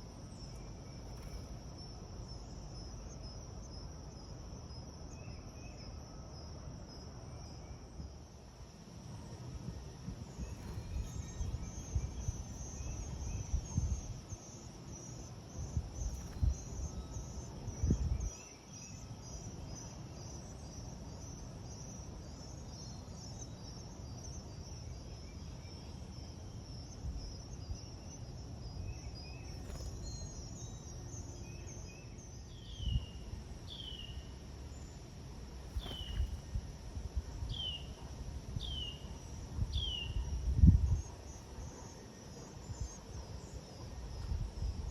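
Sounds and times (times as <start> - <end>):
insects chirping: 0.0 - 44.9.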